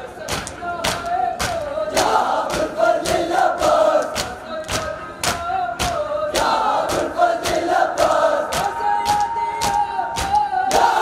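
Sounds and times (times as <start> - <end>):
crowd beating chests: 0.0 - 11.0
crowd chanting a lament: 0.0 - 11.0.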